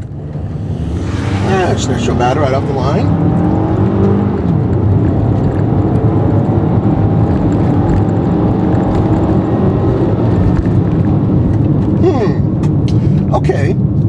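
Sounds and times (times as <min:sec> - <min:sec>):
car engine accelerating: 0:00.0 - 0:14.0
tyre and road noise: 0:00.0 - 0:14.0.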